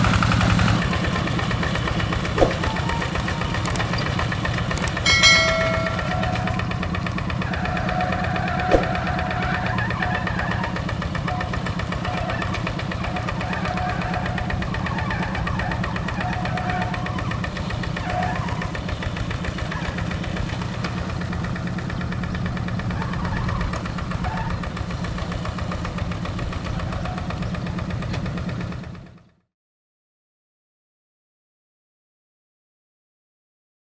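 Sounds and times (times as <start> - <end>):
diesel tractor engine throbbing: 0.0 - 29.2.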